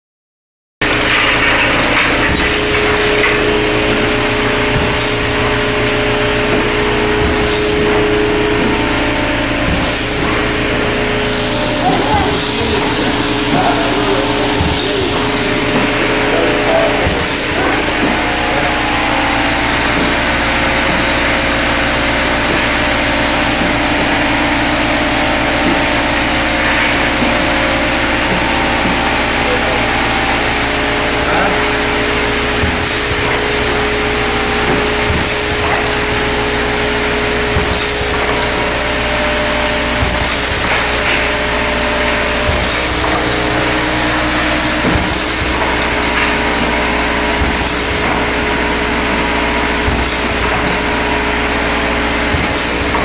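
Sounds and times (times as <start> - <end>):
bottle sorting machine running: 0.8 - 53.0.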